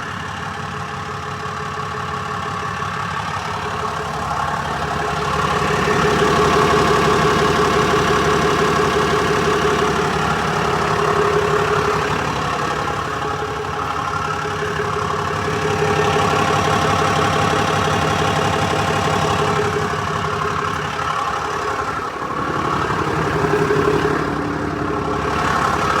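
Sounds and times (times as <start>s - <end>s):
diesel engine idling with ticking: 0.0s - 26.0s.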